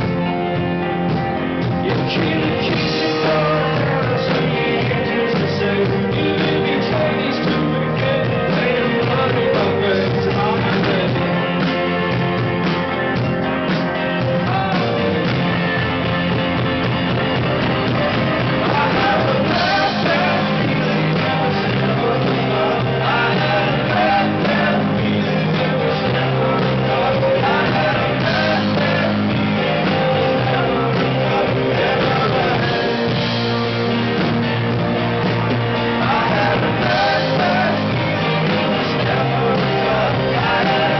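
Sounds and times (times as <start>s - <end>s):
live rock band playing: 0.0s - 40.9s
singer: 1.2s - 16.2s, 17.8s - 40.9s.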